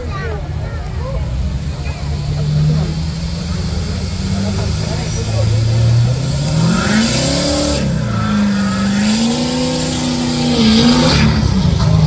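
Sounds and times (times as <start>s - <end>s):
truck engine revving under load: 0.0s - 12.0s.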